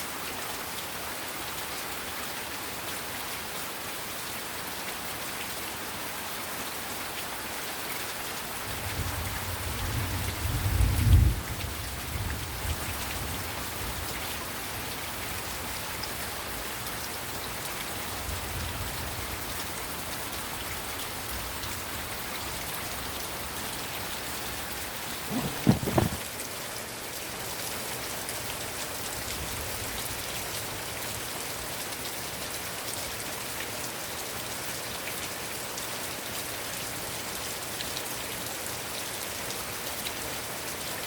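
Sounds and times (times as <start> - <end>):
heavy rain falling: 0.1 - 40.8.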